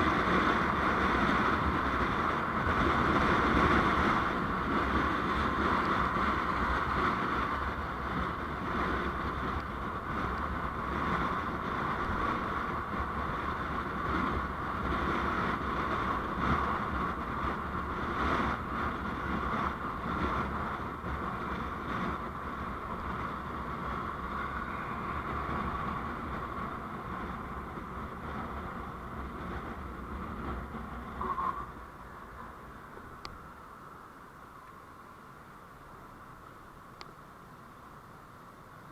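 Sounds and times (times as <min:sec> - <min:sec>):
vehicle wind and road noise: 0:00.0 - 0:38.9.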